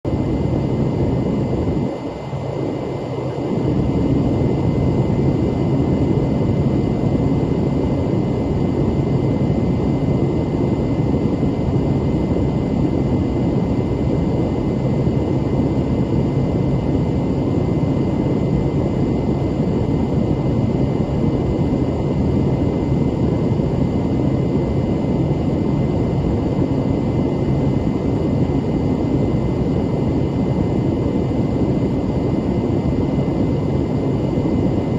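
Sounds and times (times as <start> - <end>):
aircraft engine and propeller drone: 0.0 - 34.9.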